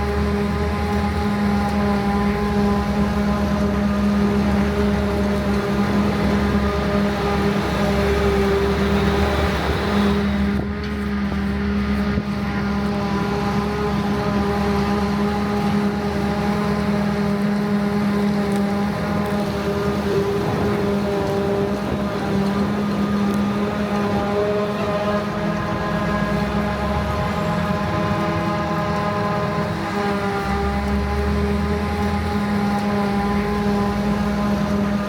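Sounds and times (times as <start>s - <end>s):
diesel farm machinery droning: 0.0s - 35.0s.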